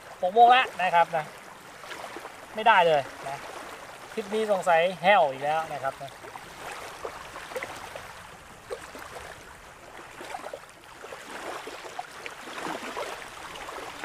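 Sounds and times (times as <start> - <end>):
small waves lapping: 0.0 - 14.0
water splashes and gurgles: 0.0 - 14.0.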